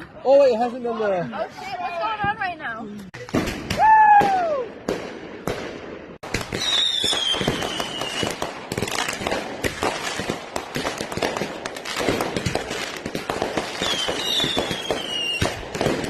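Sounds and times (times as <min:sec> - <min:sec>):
fireworks crackling and banging: 0:02.0 - 0:16.0.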